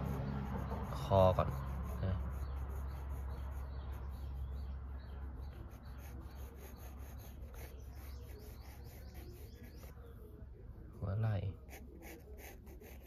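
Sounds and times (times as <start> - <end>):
pencil scratching on paper: 0.0 - 10.0, 11.6 - 13.0.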